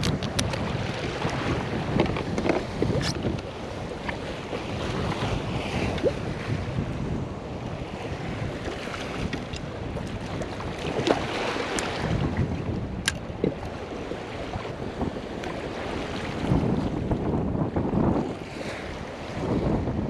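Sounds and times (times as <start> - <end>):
waves slapping against a hull: 0.0 - 20.0
wind buffeting microphone: 0.0 - 20.0.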